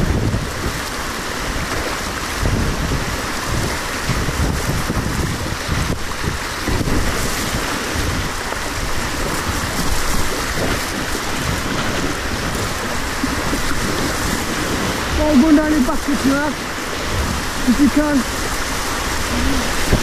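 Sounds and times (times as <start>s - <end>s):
whitewater rushing: 0.0s - 20.0s
wind buffeting microphone: 0.0s - 20.0s.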